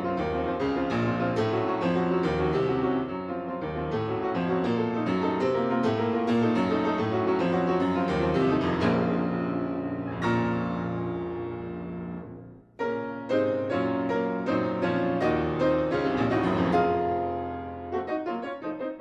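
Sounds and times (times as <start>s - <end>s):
piano-like keyboard music: 0.0s - 19.0s.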